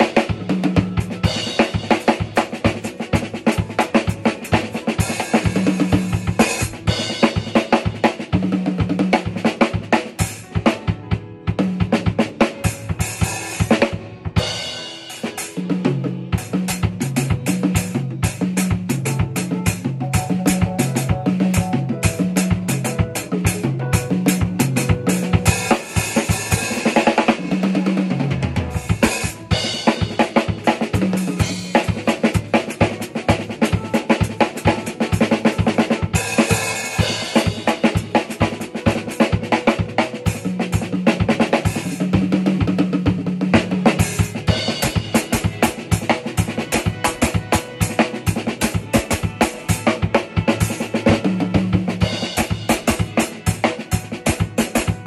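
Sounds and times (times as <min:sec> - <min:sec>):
bass line backing track: 0:00.0 - 0:55.0
drum kit played with sticks: 0:00.0 - 0:55.0.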